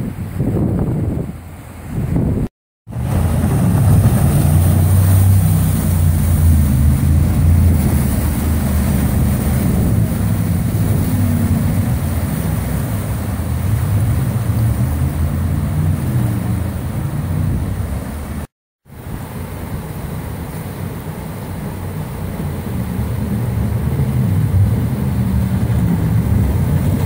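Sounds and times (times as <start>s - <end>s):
jet boat engine drone: 0.0s - 27.0s
river rapids rushing: 2.9s - 27.0s.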